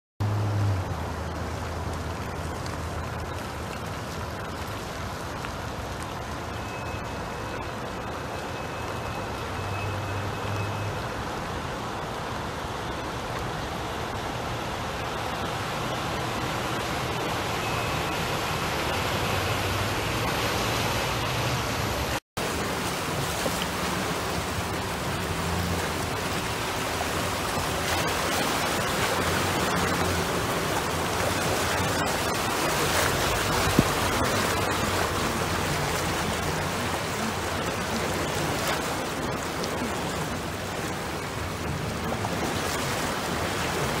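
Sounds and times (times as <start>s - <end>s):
rain: 0.2s - 44.0s
vehicles wading through floodwater: 0.2s - 44.0s.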